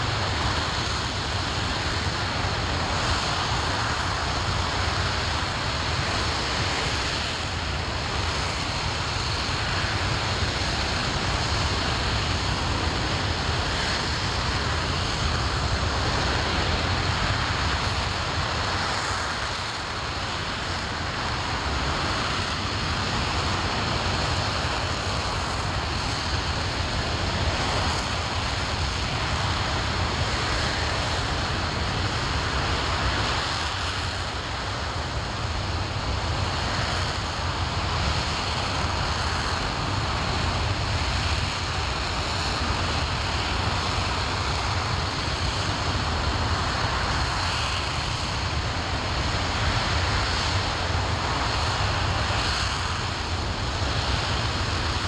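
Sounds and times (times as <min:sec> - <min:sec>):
rocket engine roaring: 0:00.0 - 0:55.0.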